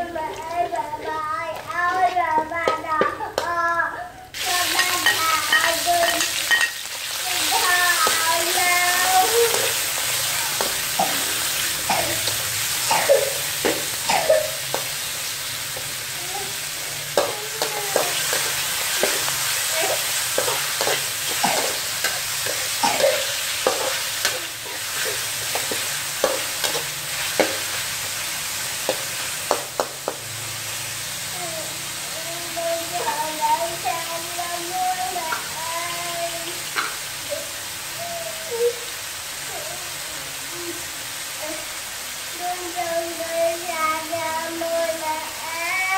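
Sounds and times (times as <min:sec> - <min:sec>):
hot oil sizzling: 0:00.0 - 0:03.6, 0:04.3 - 0:45.9.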